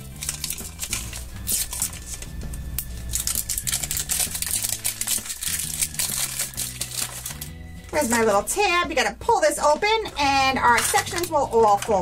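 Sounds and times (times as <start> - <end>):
plastic wrap crinkling: 0.0 - 8.5, 9.6 - 12.0
background music: 0.0 - 12.0.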